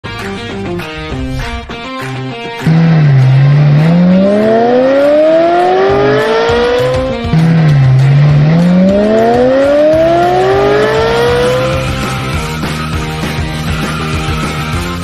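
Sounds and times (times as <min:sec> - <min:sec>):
rock music: 0:00.0 - 0:15.0
race car engine revving: 0:02.6 - 0:14.7.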